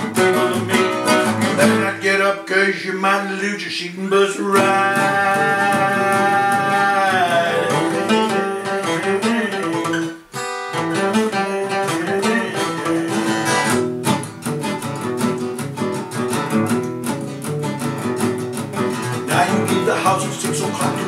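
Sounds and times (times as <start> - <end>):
acoustic guitars strumming: 0.0 - 21.0.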